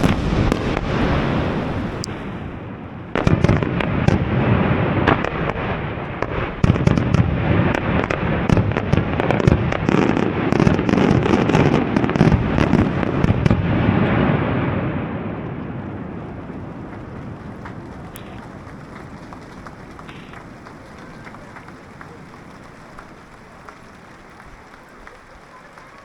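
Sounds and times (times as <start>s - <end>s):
fireworks booming: 0.0s - 26.0s
fireworks cracking and crackling: 0.0s - 26.0s.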